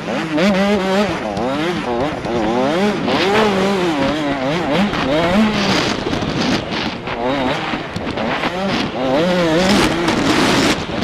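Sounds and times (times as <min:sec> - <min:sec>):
two-stroke motocross bike engine: 0:00.0 - 0:11.0.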